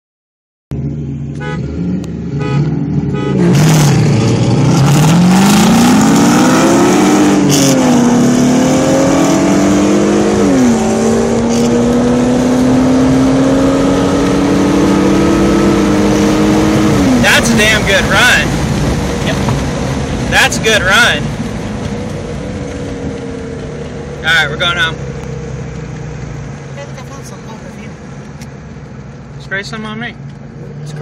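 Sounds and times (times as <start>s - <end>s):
car engines revving and accelerating: 0.8s - 31.0s.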